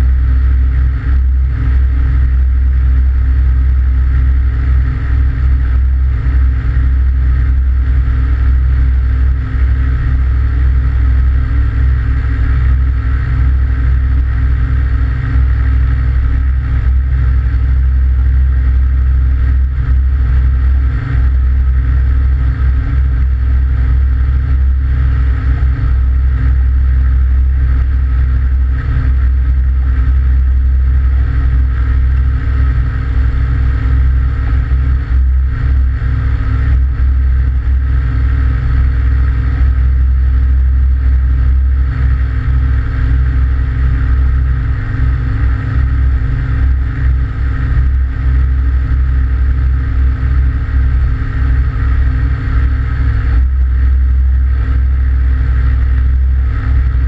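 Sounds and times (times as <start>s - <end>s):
aircraft engine and propeller: 0.0s - 57.0s.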